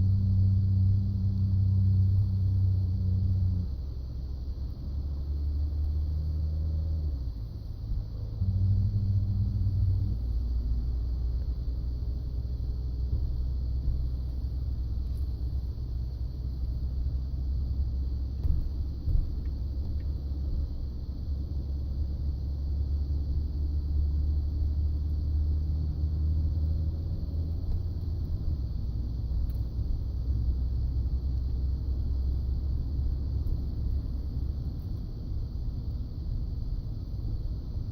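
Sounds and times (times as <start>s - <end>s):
truck rumbling on the move: 0.0s - 37.9s.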